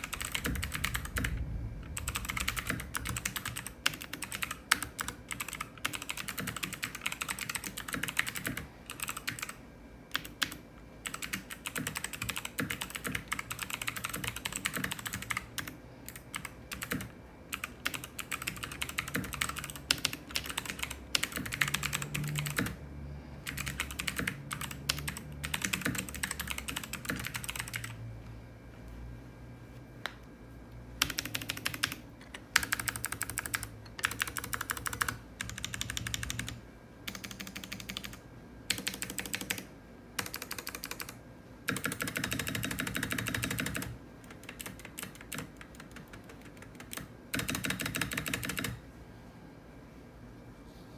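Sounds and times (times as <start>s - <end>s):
mechanical keyboard typing: 0.0s - 22.8s, 23.4s - 28.0s, 31.0s - 48.8s.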